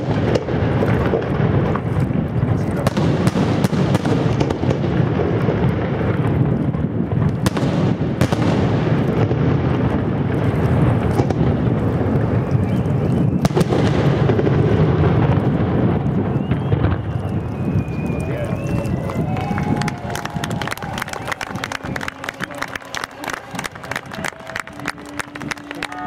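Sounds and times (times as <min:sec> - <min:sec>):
sharp firework bangs: 0:00.0 - 0:22.6
fireworks rumbling: 0:00.0 - 0:26.0.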